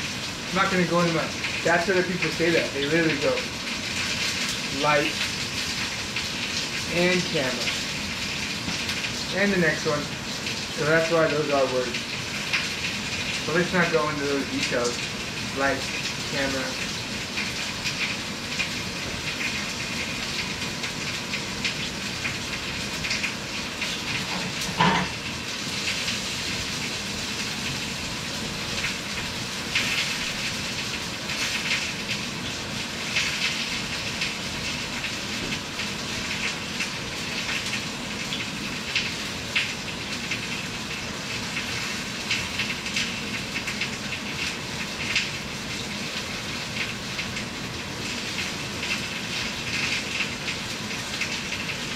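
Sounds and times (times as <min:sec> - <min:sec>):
chicken sizzling in a pan: 0:00.0 - 0:51.9.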